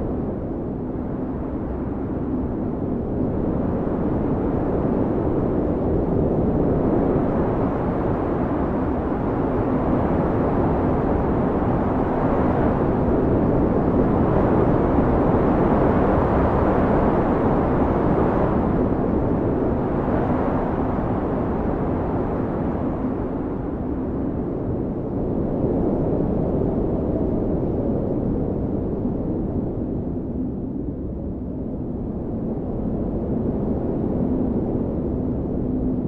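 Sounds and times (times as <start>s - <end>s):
blizzard wind blowing hard: 0.0s - 36.0s.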